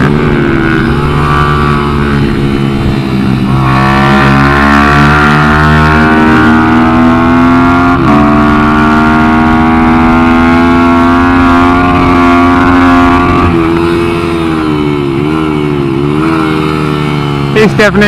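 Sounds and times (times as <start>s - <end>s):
minibike engine accelerating: 0.0s - 18.0s.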